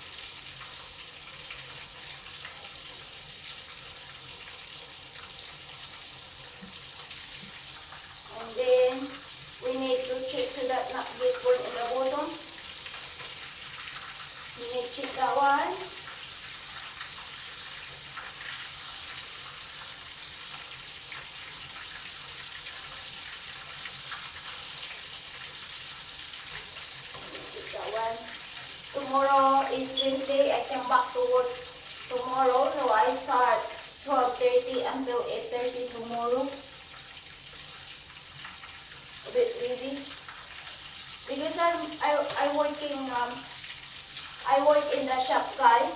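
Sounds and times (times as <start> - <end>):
chicken frying in hot oil: 0.0 - 45.9.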